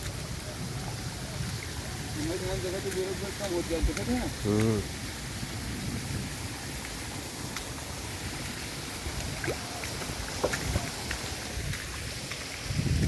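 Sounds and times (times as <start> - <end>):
rushing stream of water: 0.0 - 13.0.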